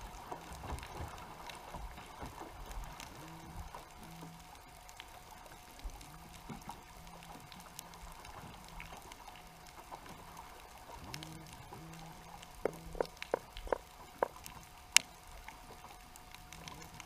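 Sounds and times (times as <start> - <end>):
faint underwater clicks: 0.0 - 17.0
steady hum: 0.0 - 17.0.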